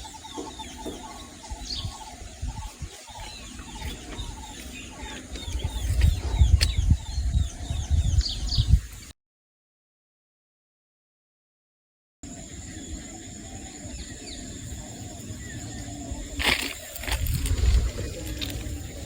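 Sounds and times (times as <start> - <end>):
small birds chirping: 0.0 - 9.1, 12.2 - 19.0.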